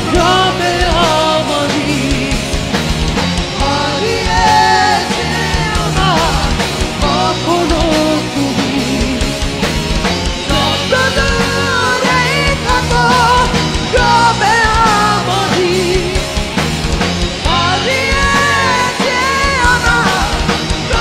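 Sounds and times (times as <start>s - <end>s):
man singing: 0.0s - 2.8s, 3.5s - 9.6s, 10.4s - 16.5s, 17.4s - 21.0s
electric bass: 0.0s - 21.0s
electric guitar: 0.0s - 21.0s
steady drum beat: 0.0s - 21.0s.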